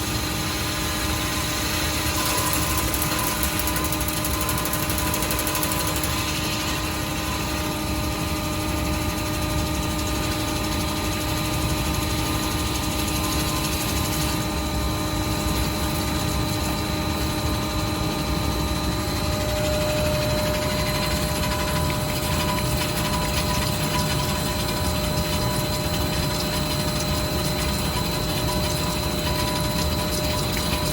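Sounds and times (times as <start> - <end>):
drilling machine humming: 0.2 - 30.9.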